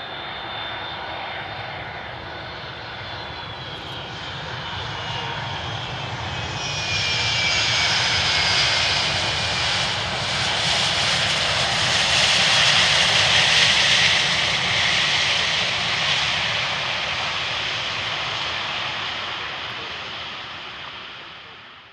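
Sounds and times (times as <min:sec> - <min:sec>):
jet engines rushing roar: 0:00.0 - 0:21.9.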